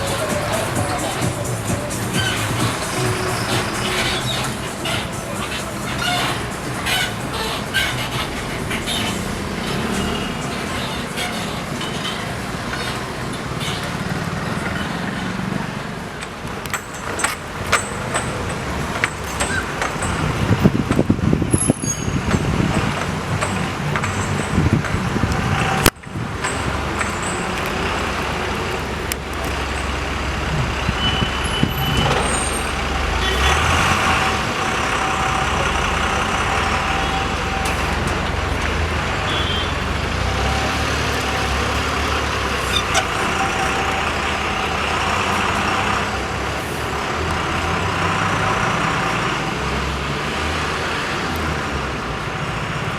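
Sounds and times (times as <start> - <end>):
low engine rumble of heavy vehicles: 0.0 - 52.9.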